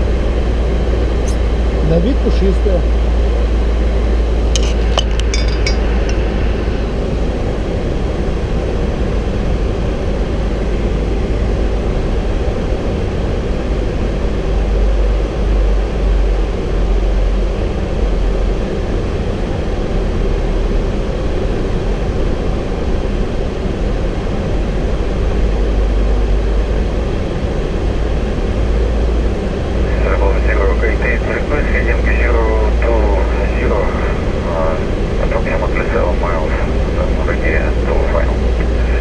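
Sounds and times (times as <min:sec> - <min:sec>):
cockpit air rush and rumble: 0:00.0 - 0:39.0.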